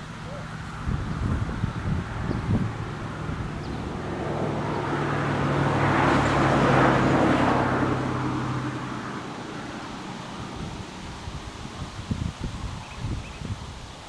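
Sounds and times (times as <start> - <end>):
vehicle passing by: 0.0 - 12.7.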